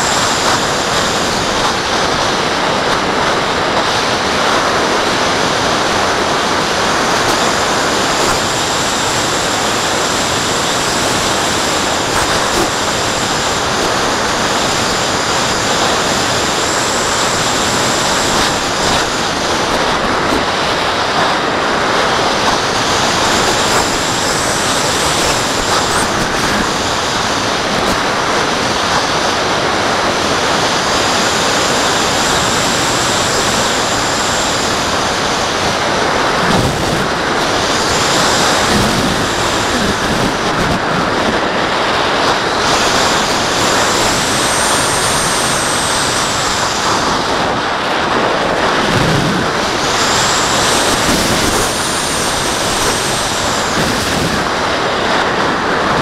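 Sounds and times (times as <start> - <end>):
wind rushing over camera: 0.0 - 56.0.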